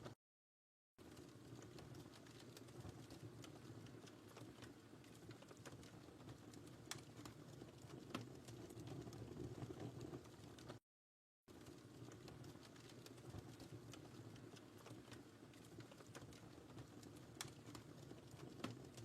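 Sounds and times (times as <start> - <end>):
faint wood fire crackling: 1.0 - 10.8, 11.5 - 19.0.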